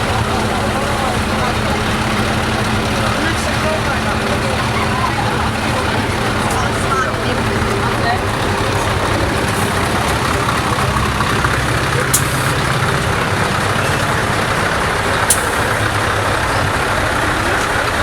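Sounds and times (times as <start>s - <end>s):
heavy truck engines passing: 0.0s - 18.0s.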